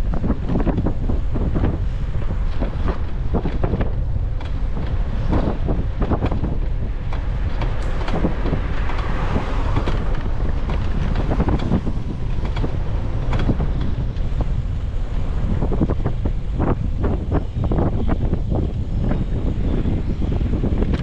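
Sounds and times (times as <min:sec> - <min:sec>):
bicycle clicks and rattles: 0:00.0 - 0:21.0
wind buffeting microphone: 0:00.0 - 0:21.0.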